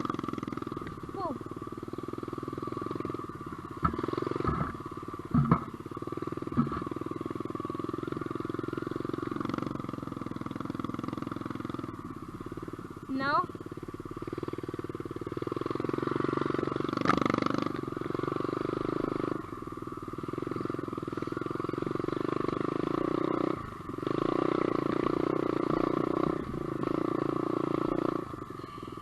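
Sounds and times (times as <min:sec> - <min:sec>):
dirt bike engine revving: 0:00.0 - 0:12.2, 0:14.2 - 0:28.9.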